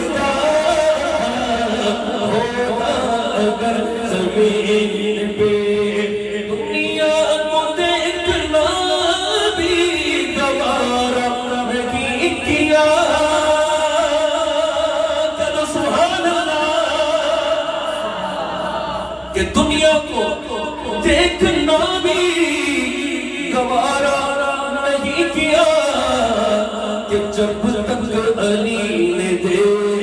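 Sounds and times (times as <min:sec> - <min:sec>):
man singing unaccompanied: 0:00.0 - 0:17.7, 0:19.4 - 0:30.0.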